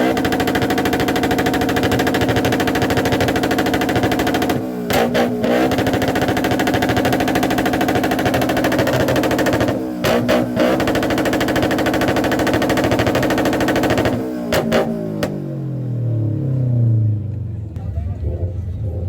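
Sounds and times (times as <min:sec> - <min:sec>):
motorcycle engine at high revs: 0:00.0 - 0:17.4.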